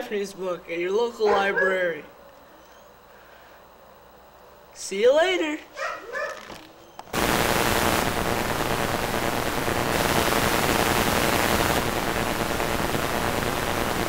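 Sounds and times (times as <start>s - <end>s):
loud static hiss: 0.0s - 14.0s.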